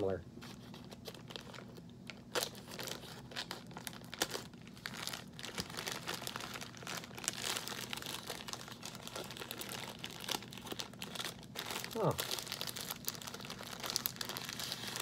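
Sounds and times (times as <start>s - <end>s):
plastic wrapper crinkling: 0.5s - 15.0s.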